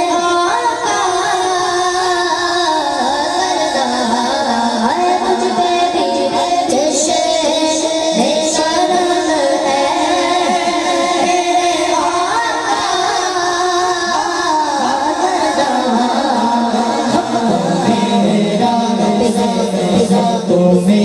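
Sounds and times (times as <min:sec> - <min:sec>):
boy singing into a microphone: 0:00.0 - 0:21.0.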